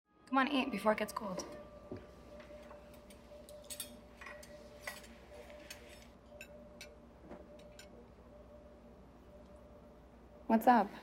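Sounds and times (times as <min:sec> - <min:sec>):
faint steady hum: 0:00.2 - 0:11.0.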